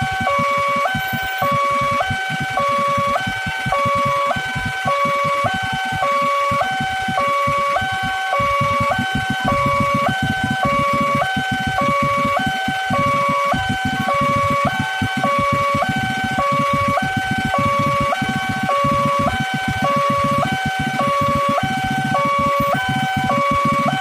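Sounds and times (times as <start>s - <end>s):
level crossing two-tone alarm: 0.0s - 24.0s.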